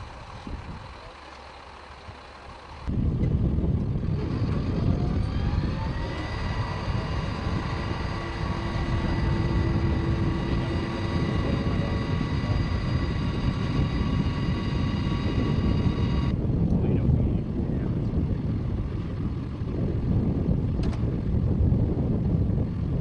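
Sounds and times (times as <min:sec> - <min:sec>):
heavy engine rumbling: 0:00.0 - 0:23.0
high engine whine: 0:00.0 - 0:23.0.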